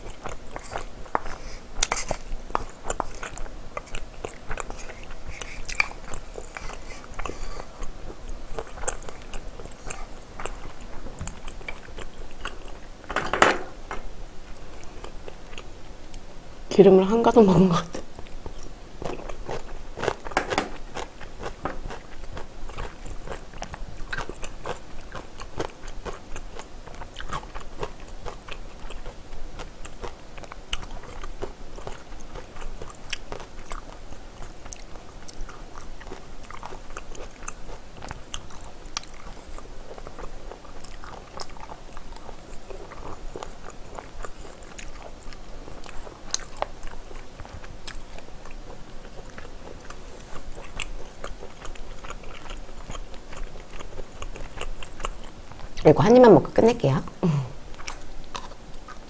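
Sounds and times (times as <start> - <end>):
person chewing food: 0.0 - 16.3, 17.9 - 55.8, 57.6 - 59.0.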